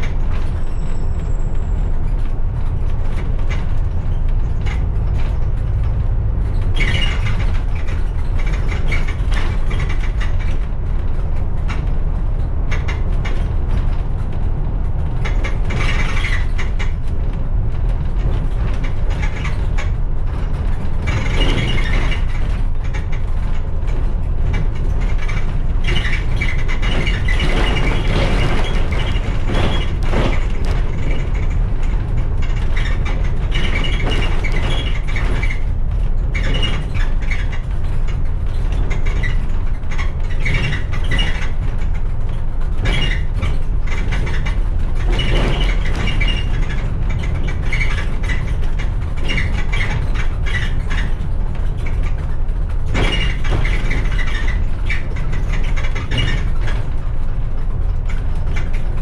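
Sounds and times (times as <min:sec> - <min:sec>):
bus body rattling: 0:00.0 - 0:59.0
bus engine and tyres rumbling: 0:00.0 - 0:59.0.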